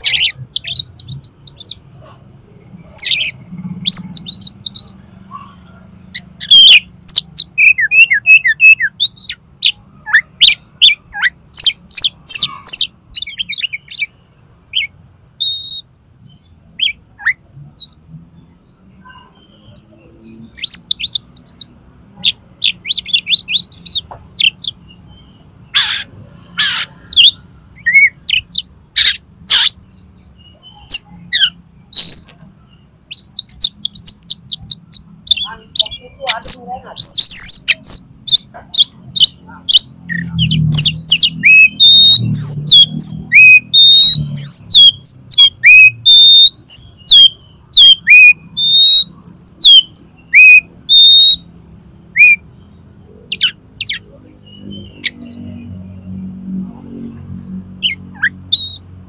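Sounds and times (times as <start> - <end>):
bird singing chirps and whistles: 0.0 - 2.0, 3.0 - 18.0, 19.0 - 32.3, 33.1 - 52.6, 53.3 - 55.5, 57.8 - 58.8.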